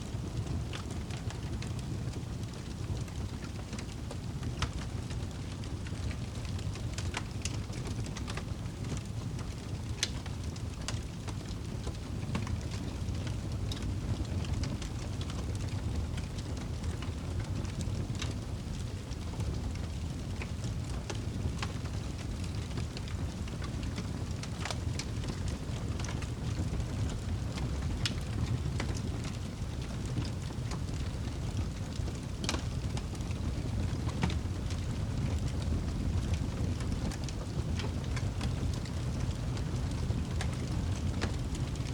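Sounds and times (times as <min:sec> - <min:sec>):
burning wood crackling and popping: 0:00.0 - 0:41.9
fire low rumble: 0:00.0 - 0:41.9.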